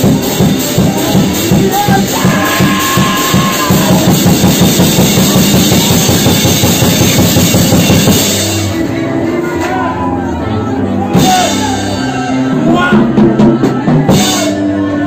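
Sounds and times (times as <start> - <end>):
loud music with fast drum beat: 0.0 - 9.3, 11.1 - 15.0.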